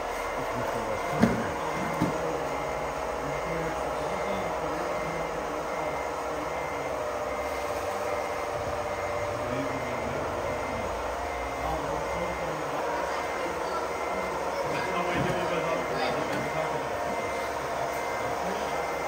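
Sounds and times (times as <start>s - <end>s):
high reversing beeps: 0.1s - 7.6s, 8.3s - 18.9s.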